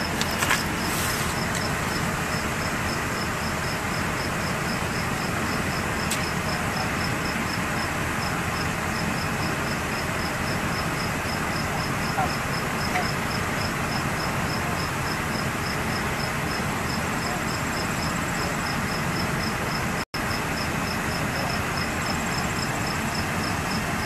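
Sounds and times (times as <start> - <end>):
cricket chirping: 0.0 - 24.0
idling vehicle engines: 0.0 - 24.0.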